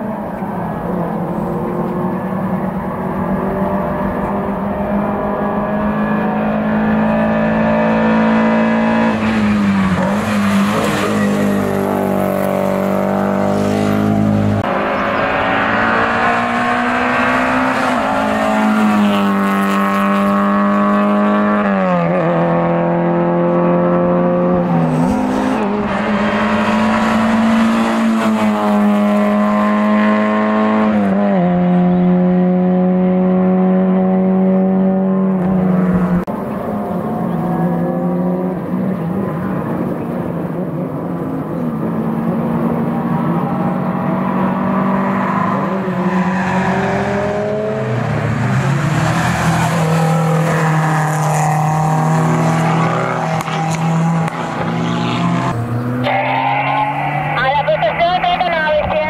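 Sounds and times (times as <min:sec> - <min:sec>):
race car engines revving: 0:00.0 - 0:59.0.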